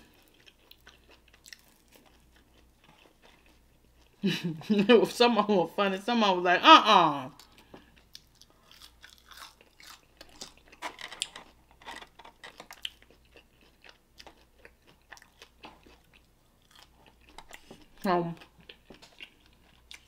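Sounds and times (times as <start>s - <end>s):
chewing crunchy chicken wings: 0.0s - 4.2s, 7.4s - 20.0s.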